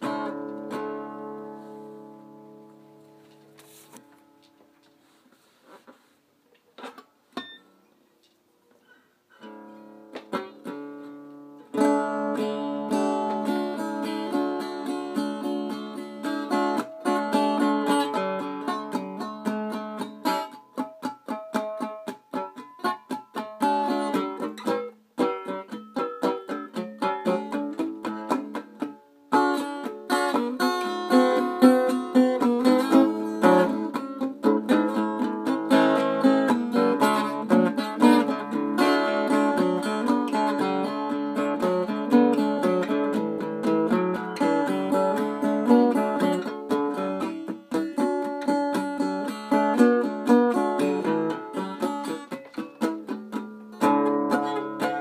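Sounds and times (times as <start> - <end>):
acoustic guitar plucks: 0.0 - 4.5, 6.8 - 8.0, 8.8 - 55.0
acoustic guitar strumming: 0.0 - 4.5, 8.8 - 55.0.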